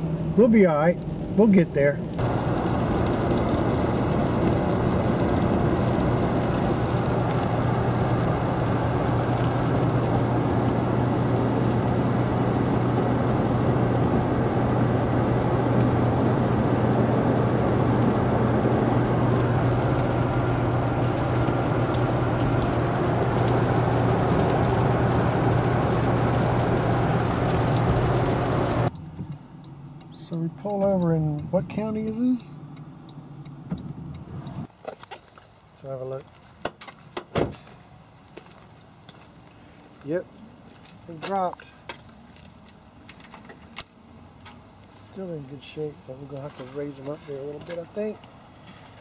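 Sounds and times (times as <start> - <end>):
constant low hum: 0.0 - 49.0
road and engine noise in car cabin: 0.0 - 49.0.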